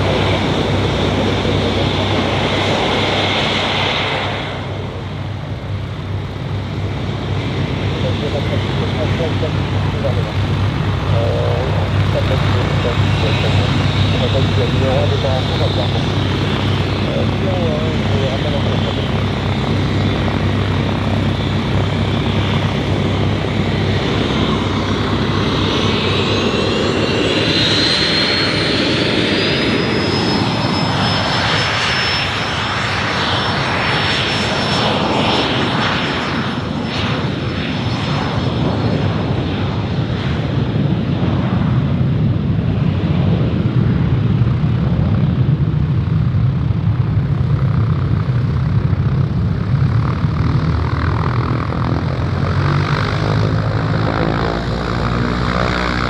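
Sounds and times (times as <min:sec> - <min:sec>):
jet engine rush: 0:00.0 - 0:56.0
jet engine whine: 0:00.0 - 0:56.0.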